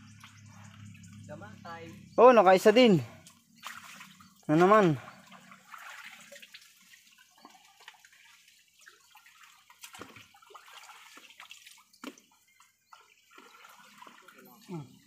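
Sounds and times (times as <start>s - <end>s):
water splashing and dripping: 0.0s - 1.7s, 2.3s - 15.0s.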